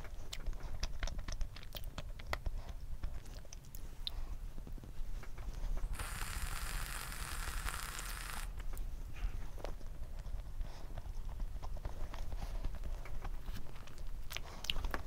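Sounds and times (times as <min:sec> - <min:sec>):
chewing brownie: 0:00.0 - 0:08.9, 0:09.5 - 0:15.0.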